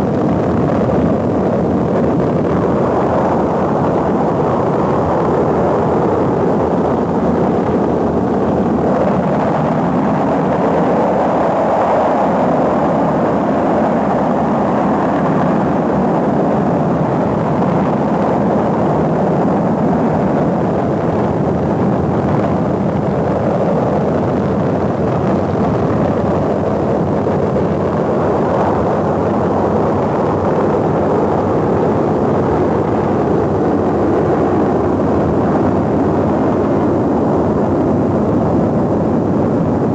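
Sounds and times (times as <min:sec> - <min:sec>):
rocket engine exhaust roar: 0:00.0 - 0:39.9.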